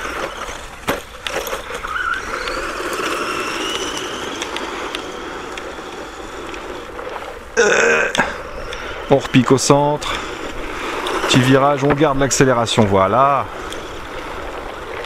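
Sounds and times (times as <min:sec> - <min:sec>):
electric motor whining: 0:00.0 - 0:15.0
tyres crunching on gravel: 0:00.0 - 0:15.0.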